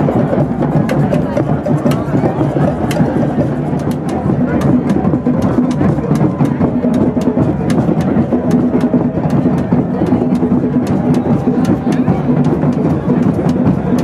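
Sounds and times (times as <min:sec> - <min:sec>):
hand drums playing: 0:00.0 - 0:14.0.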